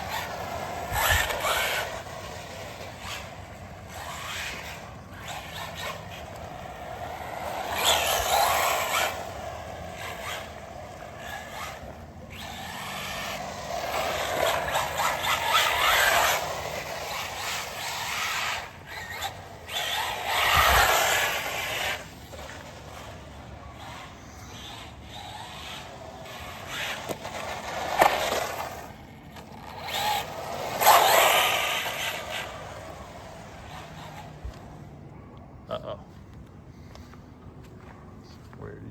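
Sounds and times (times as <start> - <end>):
rc car motor whine: 0.0 - 35.0
tyres on the ground: 0.0 - 38.9.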